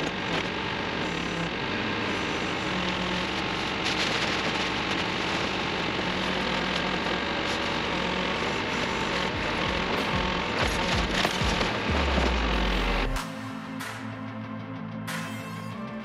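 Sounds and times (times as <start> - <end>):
diesel engine running: 0.0 - 13.4.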